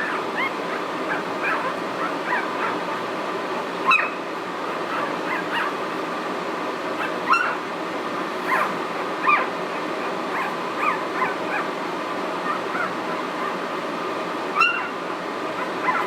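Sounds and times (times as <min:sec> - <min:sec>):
puppies squeaking and whimpering: 0:00.0 - 0:06.0, 0:07.0 - 0:07.6, 0:08.4 - 0:13.7, 0:14.6 - 0:16.0.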